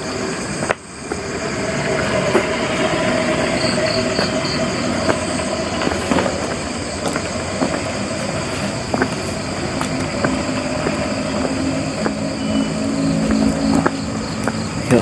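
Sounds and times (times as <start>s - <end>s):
passing vehicle rumbling: 0.0s - 15.0s.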